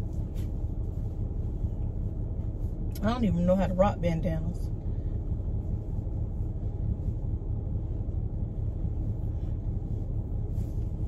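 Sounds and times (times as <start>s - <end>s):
car idling: 0.0s - 11.0s.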